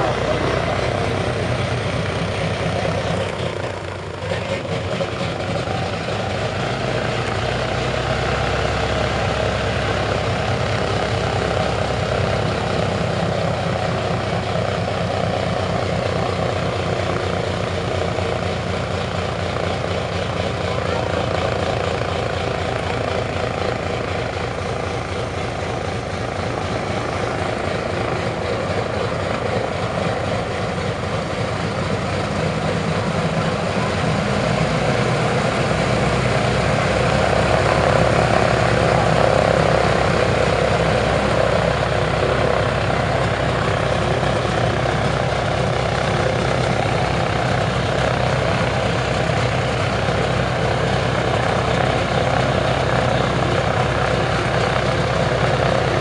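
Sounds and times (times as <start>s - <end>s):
radial aircraft engines idling: 0.0s - 56.0s.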